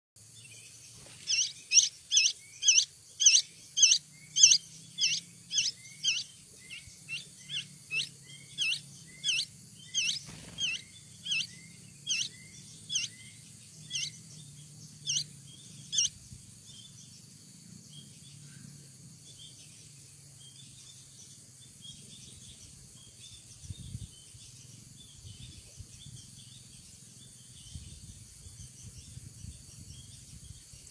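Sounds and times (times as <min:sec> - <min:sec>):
bird chirping: 0:00.2 - 0:30.9.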